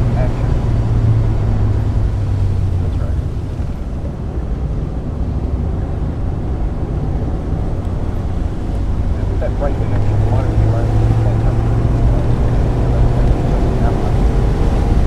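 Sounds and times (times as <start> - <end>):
car engine from inside cabin: 0.0 - 15.0
road and tyre noise: 0.0 - 15.0.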